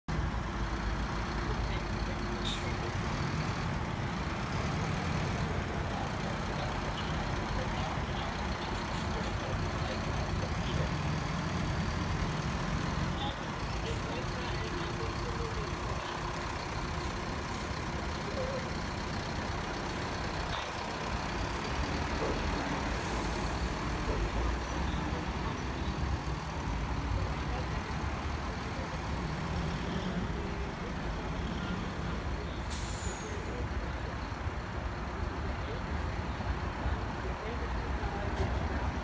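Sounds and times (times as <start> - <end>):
truck engines running: 0.0 - 39.0.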